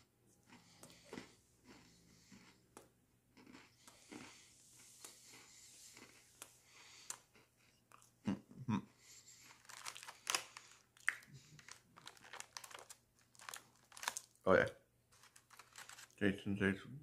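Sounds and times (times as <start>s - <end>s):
cookie crunching chewing: 0.0s - 14.4s, 15.2s - 16.2s.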